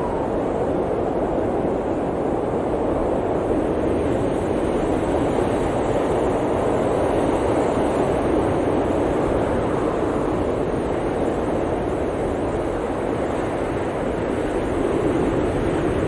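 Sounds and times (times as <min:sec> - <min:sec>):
blizzard wind rushing: 0:00.0 - 0:16.0.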